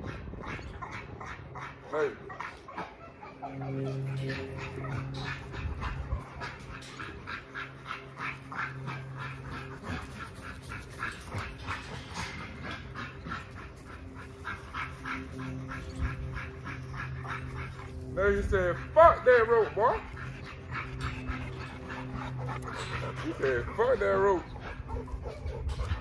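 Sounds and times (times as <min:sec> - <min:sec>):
steady low hum: 0:00.0 - 0:26.0
dog panting hard: 0:03.6 - 0:18.1, 0:19.6 - 0:26.0.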